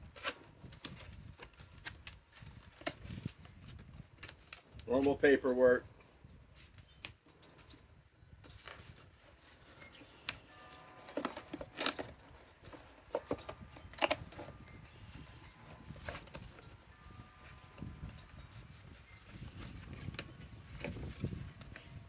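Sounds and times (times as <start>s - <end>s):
paper and plastic rustling: 0.0s - 7.8s, 8.4s - 22.0s.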